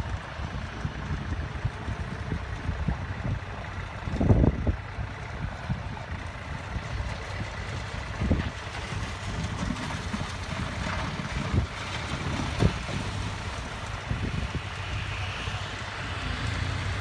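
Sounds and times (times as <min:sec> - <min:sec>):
wind buffeting microphone: 0:00.0 - 0:16.0
diesel machinery idling: 0:00.0 - 0:17.0.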